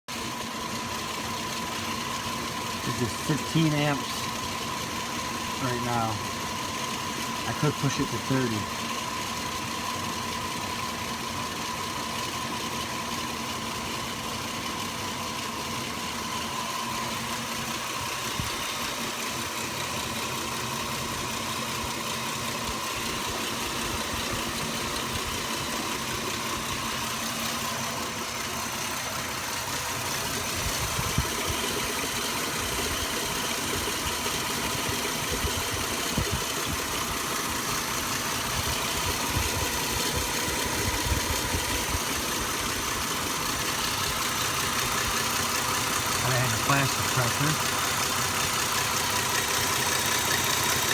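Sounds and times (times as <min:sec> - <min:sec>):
vehicle engine idling: 0:00.1 - 0:50.9.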